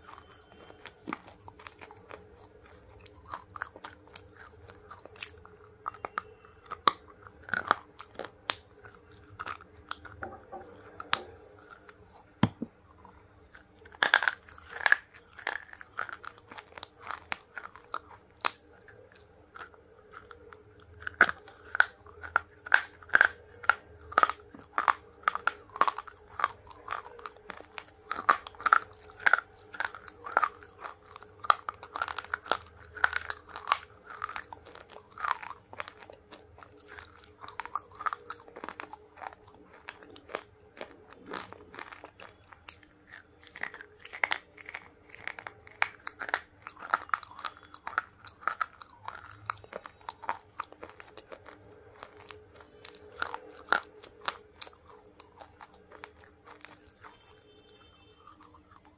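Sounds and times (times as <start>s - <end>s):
crunching brittle clay: 0.0s - 58.9s
faint steady hum: 0.0s - 58.9s.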